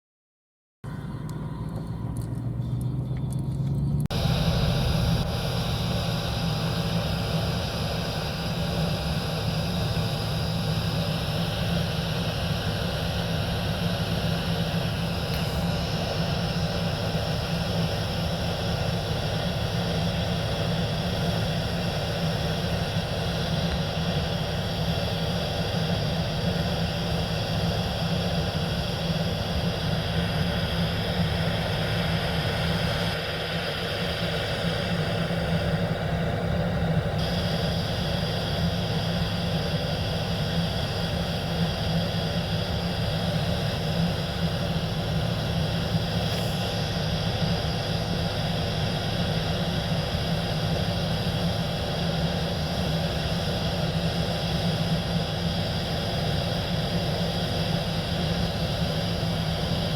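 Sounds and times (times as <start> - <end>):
combine harvester engine drone: 0.8 - 59.9
high machinery whine: 0.8 - 59.9.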